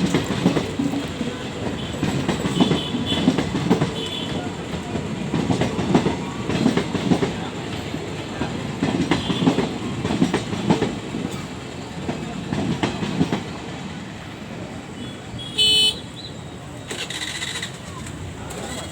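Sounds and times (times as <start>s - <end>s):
train wheels clicking over rail joints: 0.0s - 14.0s, 16.6s - 18.9s
train rumble: 0.0s - 18.9s.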